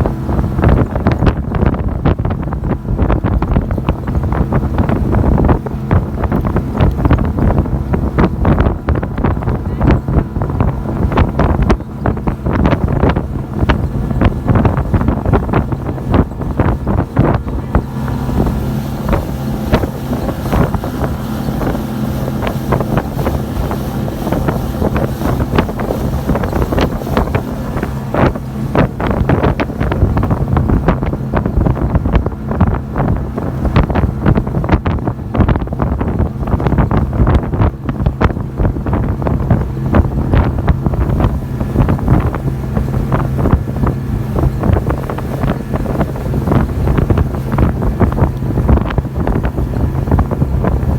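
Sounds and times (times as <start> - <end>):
motorboat engine humming: 0.0 - 50.9
wind buffeting microphone: 0.0 - 50.9.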